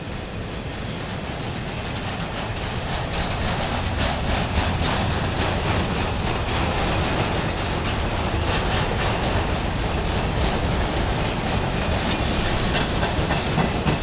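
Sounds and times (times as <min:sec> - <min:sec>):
freight train wheels rumbling: 0:00.0 - 0:14.0
light fast clatter of train: 0:00.0 - 0:14.0.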